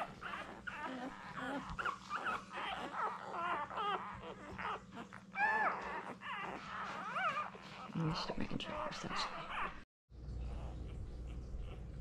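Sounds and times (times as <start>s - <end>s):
puppies squeaking and whimpering: 0.0s - 12.0s.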